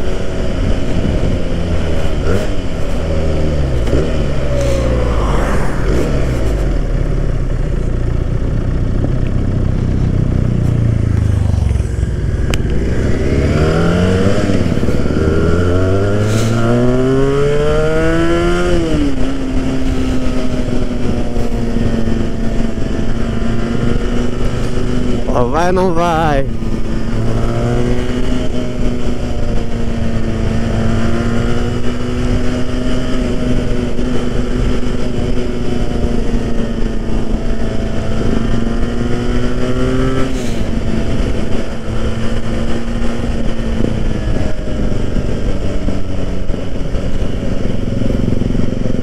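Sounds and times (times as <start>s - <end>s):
motorcycle engine revving: 0.0s - 25.3s, 26.5s - 49.0s.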